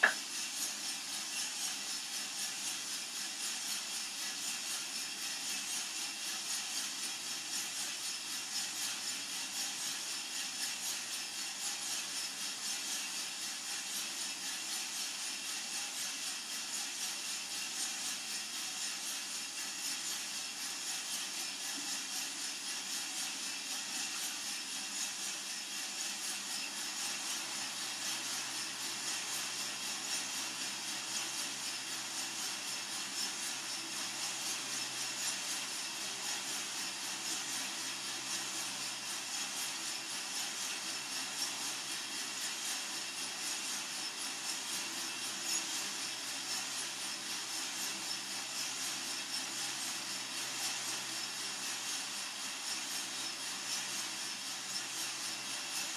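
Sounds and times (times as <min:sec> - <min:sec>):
coffee roaster hissing and rattling: 0:00.0 - 0:55.9.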